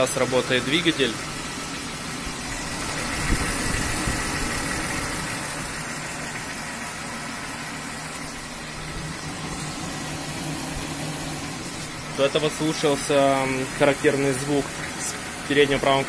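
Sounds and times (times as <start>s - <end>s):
car engine idling with knock: 0.0s - 16.0s.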